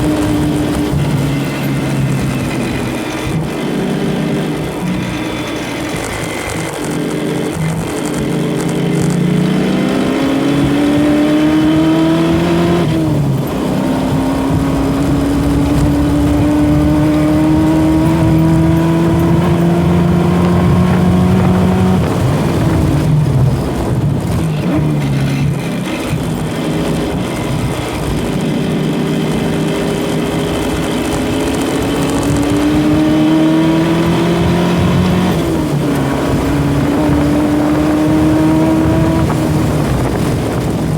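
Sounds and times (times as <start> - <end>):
car engine revving through gears: 0.0 - 40.9.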